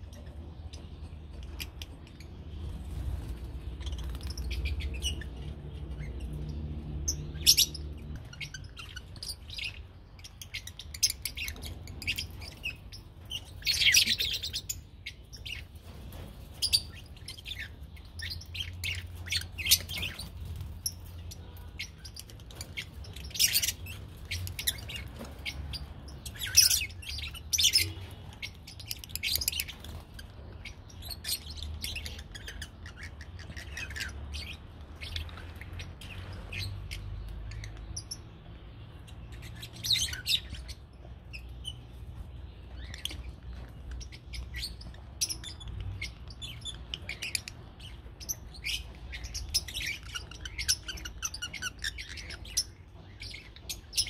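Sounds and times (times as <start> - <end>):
lovebirds chirping and shrieking: 0.0 - 54.0.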